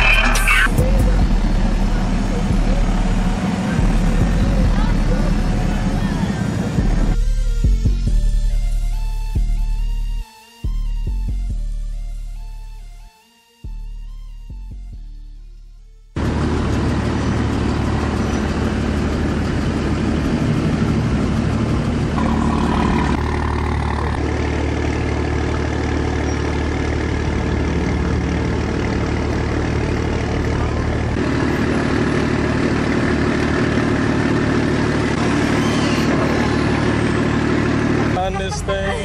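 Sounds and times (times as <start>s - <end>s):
truck engine idling: 0.0s - 12.8s, 14.0s - 39.0s.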